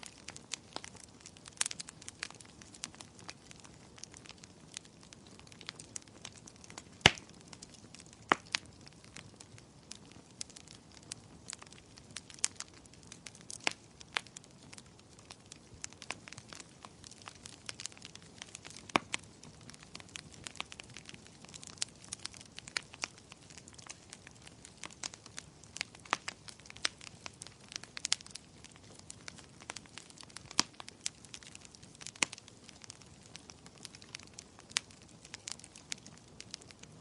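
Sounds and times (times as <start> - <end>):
faint steady hiss: 0.0 - 37.0
wood fire crackling and popping: 0.0 - 37.0.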